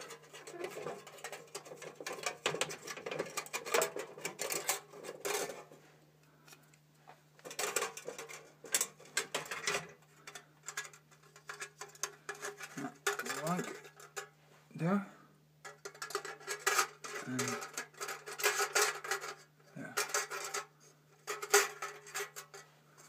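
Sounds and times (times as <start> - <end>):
metal parts clinking and rattling: 0.0 - 5.7, 7.4 - 14.3, 15.6 - 22.7.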